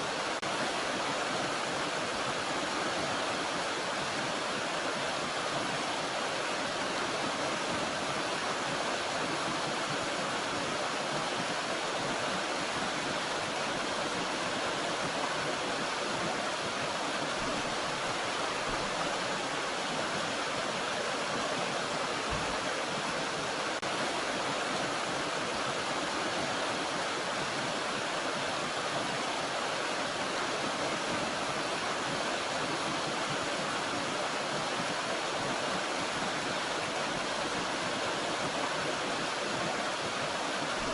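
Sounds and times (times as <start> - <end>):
stream and waterfall rushing: 0.0 - 40.9.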